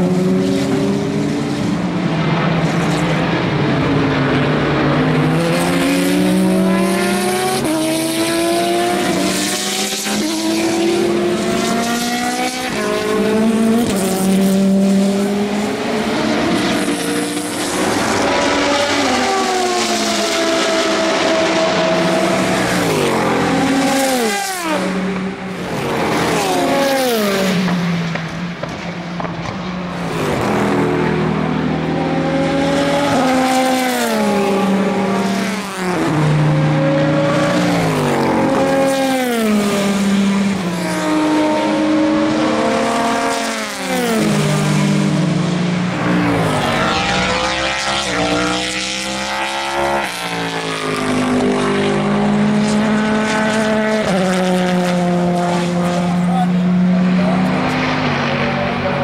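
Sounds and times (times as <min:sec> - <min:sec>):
racing engine at speed: 0:00.0 - 0:59.0.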